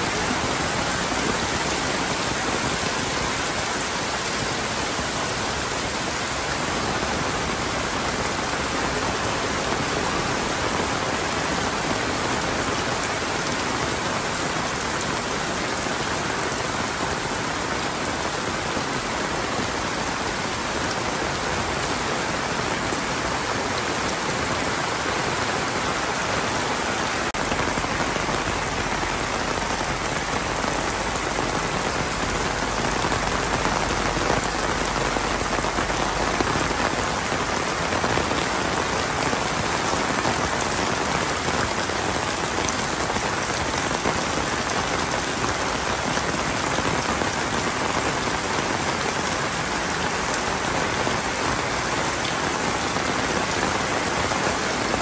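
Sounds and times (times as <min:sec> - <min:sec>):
heavy rain on roofs: 0:00.0 - 0:55.0.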